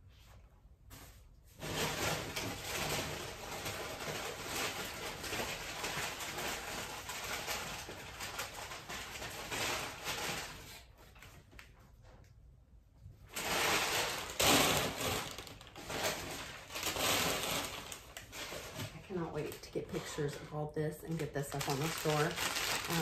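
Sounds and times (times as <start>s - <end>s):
packing paper rustling: 1.6s - 12.1s, 13.2s - 23.0s.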